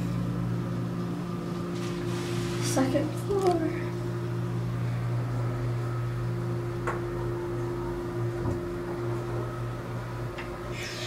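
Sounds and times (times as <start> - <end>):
elevator motor hum: 0.0 - 11.0.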